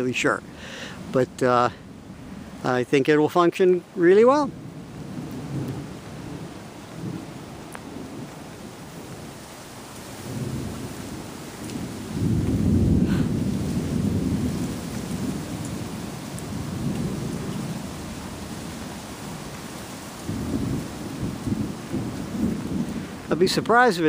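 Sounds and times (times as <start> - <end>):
distant thunder rumbling: 4.4 - 24.0.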